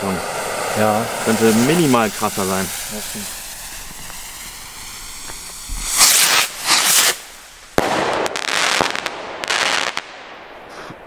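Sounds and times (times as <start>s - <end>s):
rough hissing noise: 0.0s - 9.0s
sharp firework bang: 0.0s - 11.0s
skyrockets whooshing: 0.0s - 11.0s.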